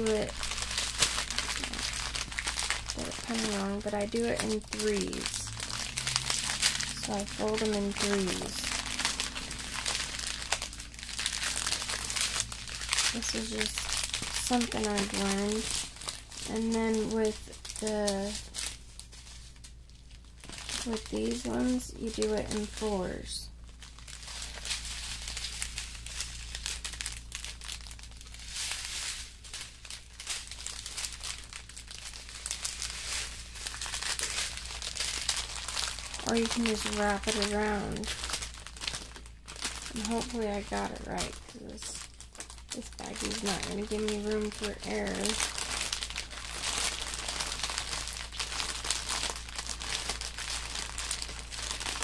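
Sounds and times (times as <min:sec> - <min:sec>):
small plastic bags crinkling: 0:00.0 - 0:52.0.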